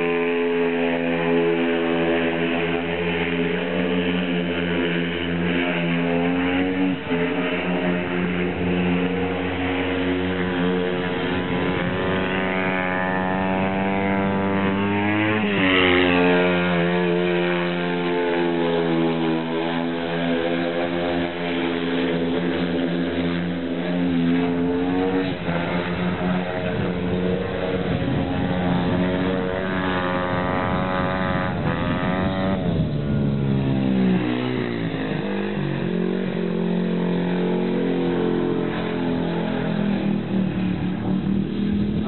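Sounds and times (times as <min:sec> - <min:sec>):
motorcycle engine running hard: 0:00.0 - 0:42.0.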